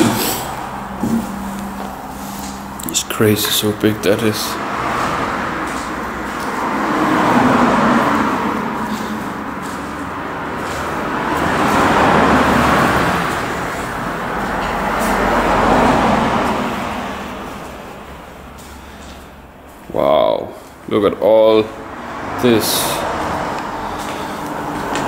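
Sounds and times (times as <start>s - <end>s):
passing road traffic: 0.0s - 25.0s.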